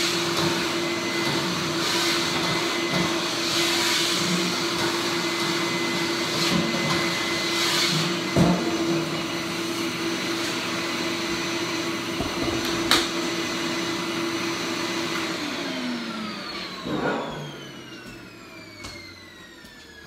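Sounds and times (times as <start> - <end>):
shop vacuum whining: 0.0 - 20.0.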